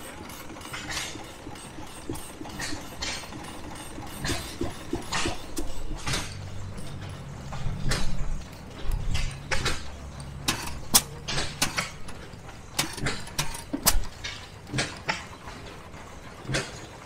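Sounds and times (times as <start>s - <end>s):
stationary engine clacks and pops: 0.0s - 17.0s.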